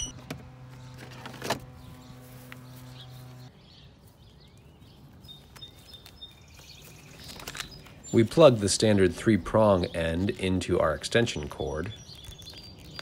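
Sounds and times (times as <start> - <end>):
quiet outdoor ambience: 0.0 - 13.0
bird chirp: 1.7 - 13.0.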